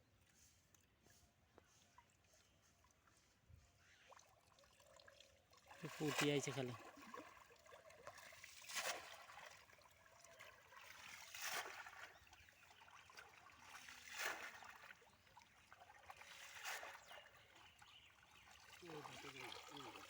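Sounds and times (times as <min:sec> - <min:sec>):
water trickling and lapping: 0:00.0 - 0:20.0.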